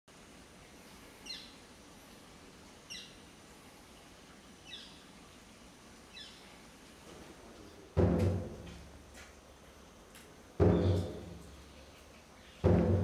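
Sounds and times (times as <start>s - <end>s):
faint background noise: 0.1s - 13.0s.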